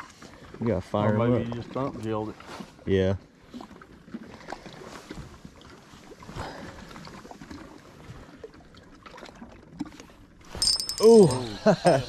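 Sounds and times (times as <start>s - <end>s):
waves lapping against boat hull: 0.0s - 10.6s.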